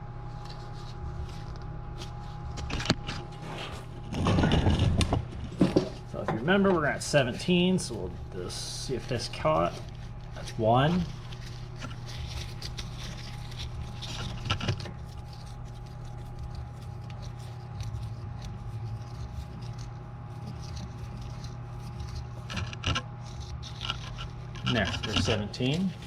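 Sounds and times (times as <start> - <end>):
steady background hum: 0.0 - 26.0
faint metal scraping: 0.4 - 26.0.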